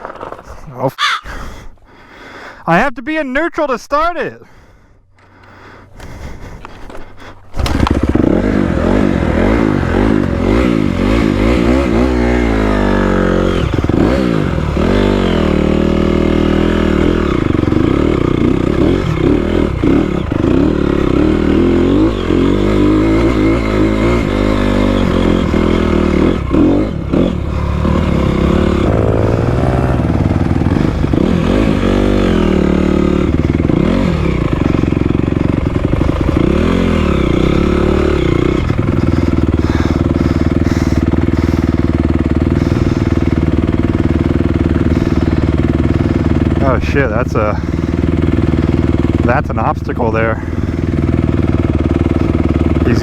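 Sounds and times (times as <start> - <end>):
dirt bike engine revving: 7.0 - 53.0.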